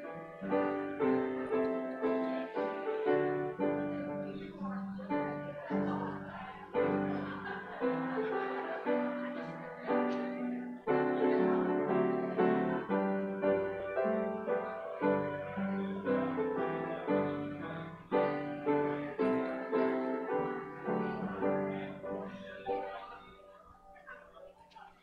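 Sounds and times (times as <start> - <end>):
piano playing slow chords: 0.0 - 23.4.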